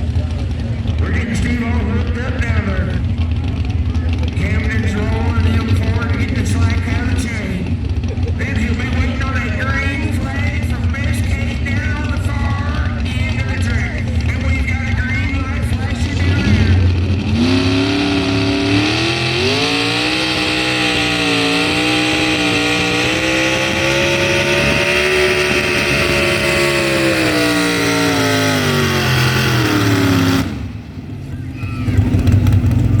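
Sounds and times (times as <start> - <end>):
truck engine at full throttle: 0.0 - 33.0.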